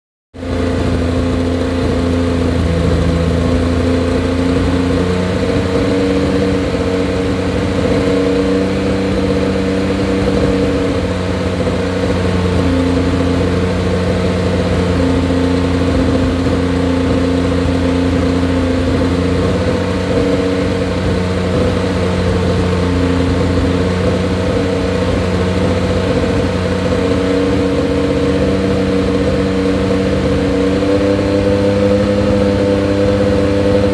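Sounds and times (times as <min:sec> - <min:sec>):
engine humming: 0:00.3 - 0:33.9.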